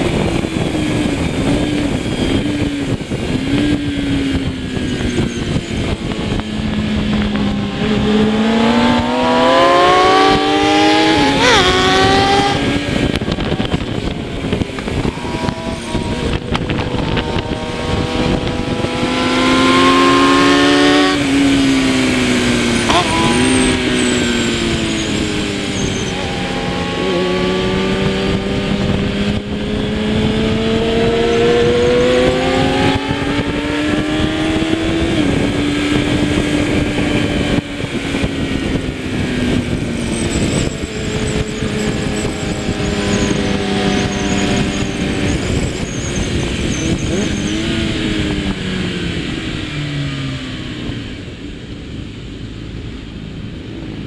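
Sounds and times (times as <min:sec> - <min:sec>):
motorcycle engine at racing speed: 0:00.0 - 0:54.0
wind rush: 0:00.0 - 0:54.0.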